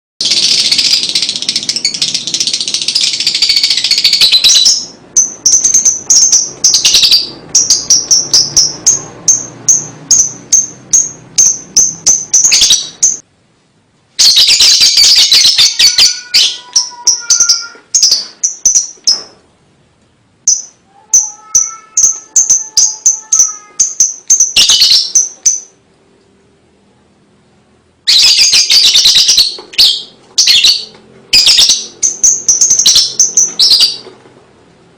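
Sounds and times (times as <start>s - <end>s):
lovebird chattering: 0.2s - 13.2s, 14.2s - 19.2s, 20.4s - 25.8s, 28.1s - 34.1s.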